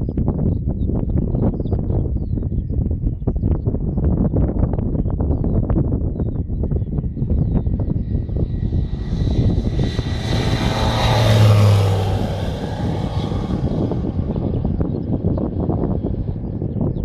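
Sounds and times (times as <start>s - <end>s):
propeller aircraft flyby: 0.0s - 17.0s.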